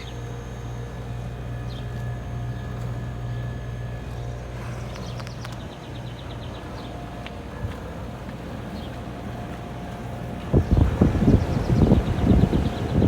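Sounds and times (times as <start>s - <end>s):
air conditioner condenser humming: 0.0s - 13.0s.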